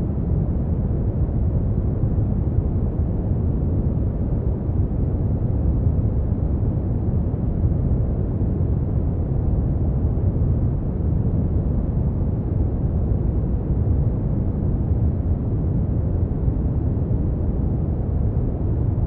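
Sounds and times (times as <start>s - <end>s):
deep rumbling brown noise: 0.0s - 19.0s.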